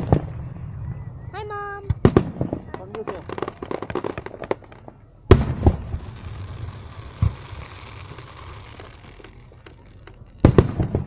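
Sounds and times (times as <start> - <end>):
loud firework bangs: 0.0 - 0.5, 1.7 - 11.0
firework boom: 1.8 - 11.0
firework hiss: 1.8 - 11.0
firework pops: 1.8 - 11.0.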